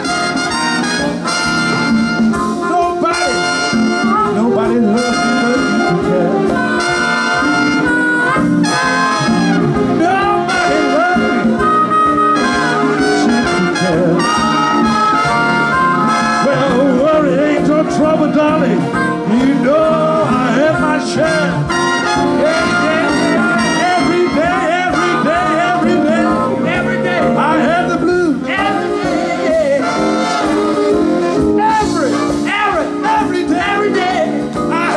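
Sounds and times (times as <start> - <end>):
live swing jazz band: 0.0 - 34.9.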